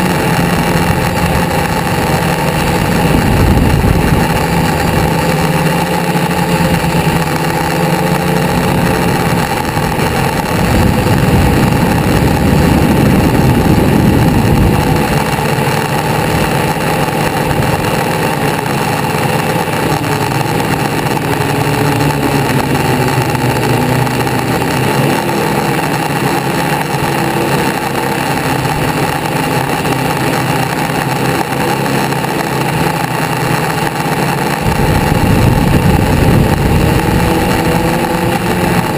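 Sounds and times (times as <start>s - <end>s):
engine revving: 0.0s - 38.9s
hot rod engines idling: 0.0s - 38.9s.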